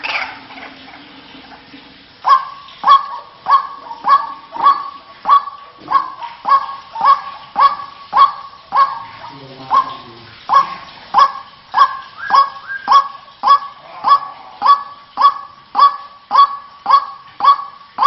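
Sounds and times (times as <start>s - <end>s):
waterhen calling harshly: 0.0s - 1.3s, 2.0s - 18.0s.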